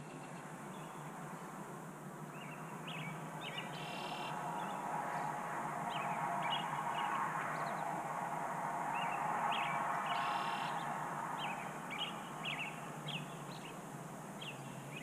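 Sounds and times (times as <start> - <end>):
birds chirping: 0.0 - 15.0
outdoor background hum: 0.0 - 15.0.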